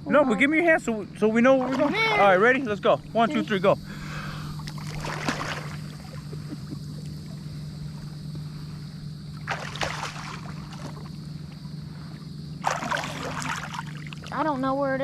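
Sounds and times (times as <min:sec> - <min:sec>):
steady low hum: 0:00.0 - 0:15.0
water splashing and sloshing: 0:01.2 - 0:15.0.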